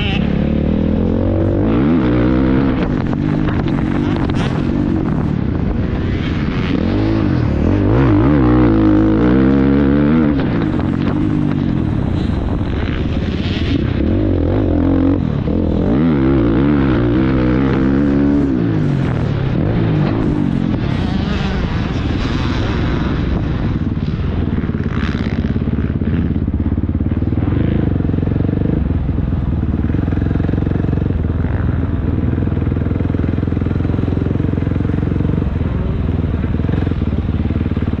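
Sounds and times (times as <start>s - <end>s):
motocross bike engine: 0.0s - 38.0s.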